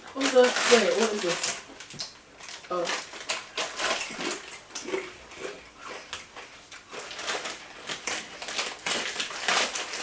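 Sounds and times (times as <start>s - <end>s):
snack packaging rustling: 0.0s - 10.0s
snacks being eaten crunching: 0.3s - 10.0s.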